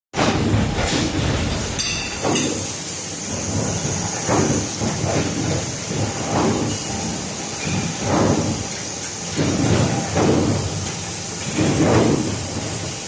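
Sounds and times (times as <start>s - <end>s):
low rumbling machine noise: 0.2s - 13.0s.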